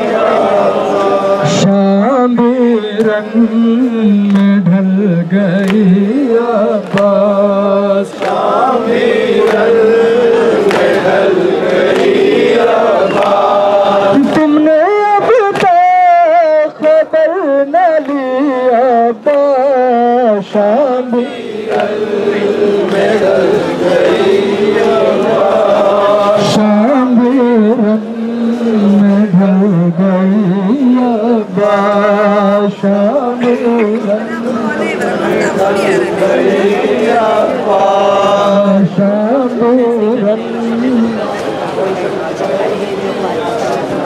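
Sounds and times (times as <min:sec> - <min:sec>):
man singing a lament: 0:00.0 - 0:41.3.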